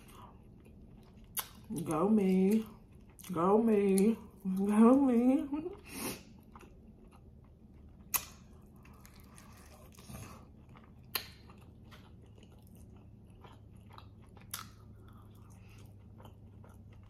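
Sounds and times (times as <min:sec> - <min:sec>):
close-up chewing: 0:00.0 - 0:04.5, 0:05.7 - 0:17.0
low steady hum: 0:00.0 - 0:17.0.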